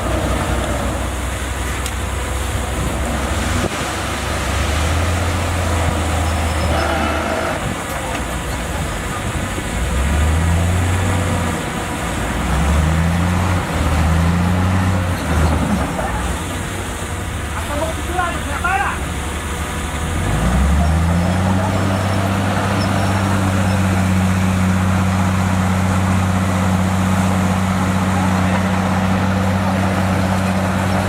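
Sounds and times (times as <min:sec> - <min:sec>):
bulldozer diesel engine droning: 0:00.0 - 0:31.0.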